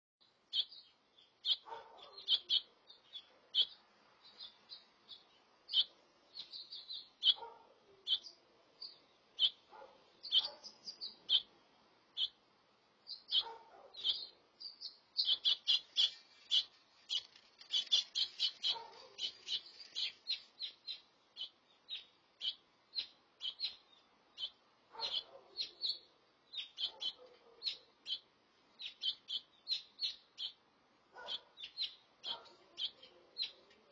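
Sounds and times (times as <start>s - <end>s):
finches chirping: 0.5s - 12.4s, 13.0s - 33.9s.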